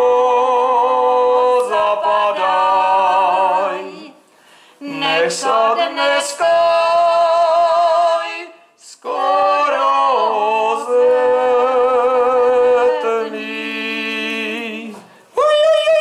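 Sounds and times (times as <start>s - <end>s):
man and woman singing folk song: 0.0s - 16.0s.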